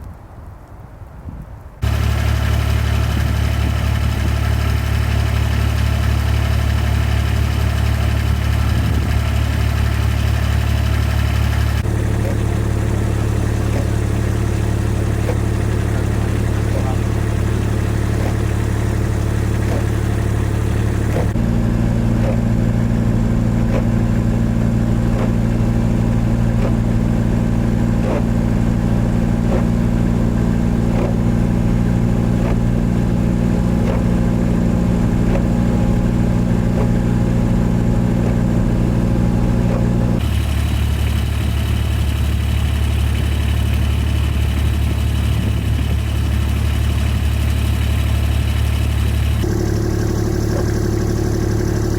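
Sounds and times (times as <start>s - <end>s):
vehicle engine humming: 0.0s - 51.9s.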